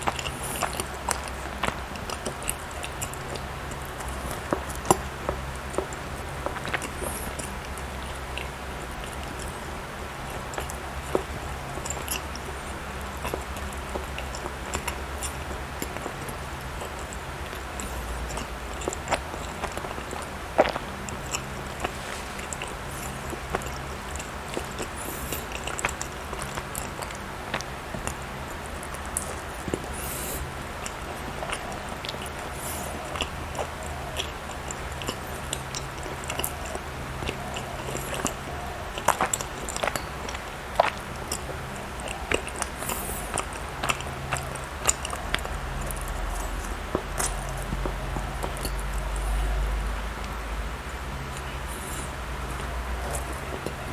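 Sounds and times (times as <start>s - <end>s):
chewing soft food: 0.0s - 53.9s
faint steady hum: 0.0s - 53.9s.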